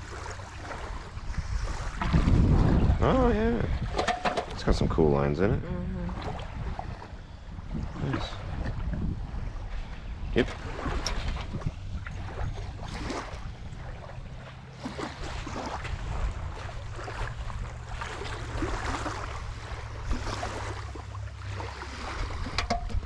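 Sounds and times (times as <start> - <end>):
water splashing in shallows: 0.0 - 23.0
wind rumble on microphone: 0.0 - 23.0.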